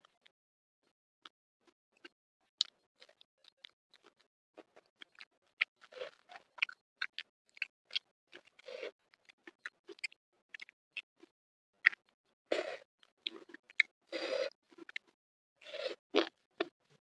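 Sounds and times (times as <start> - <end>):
chewing crunchy food: 2.0 - 17.0.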